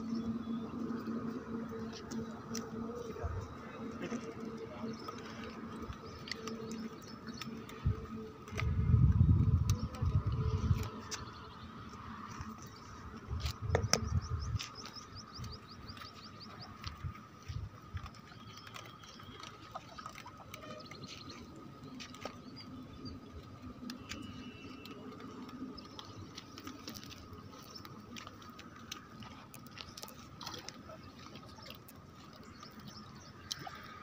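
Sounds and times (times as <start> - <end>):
small clicks and ticks: 0.1 - 34.0.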